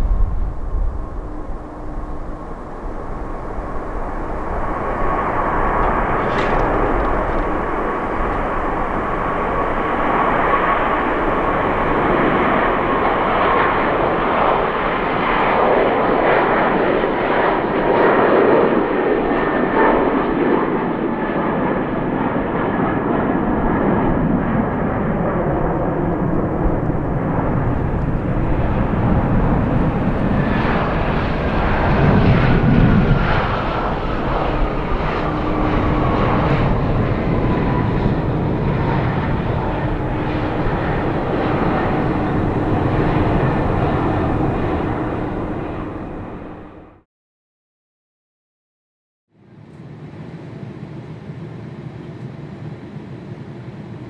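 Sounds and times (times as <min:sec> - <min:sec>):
jet engines rushing and whining: 0:00.0 - 0:47.0, 0:49.4 - 0:54.0.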